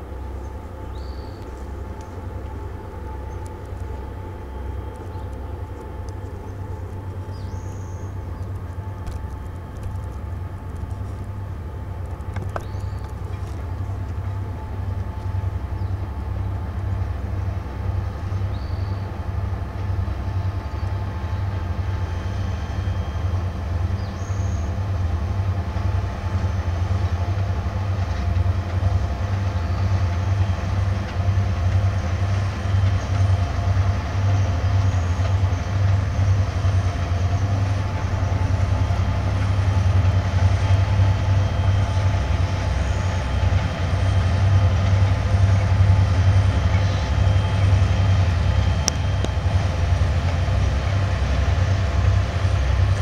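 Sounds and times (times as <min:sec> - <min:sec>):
diesel locomotives rumbling: 0:00.0 - 0:53.0.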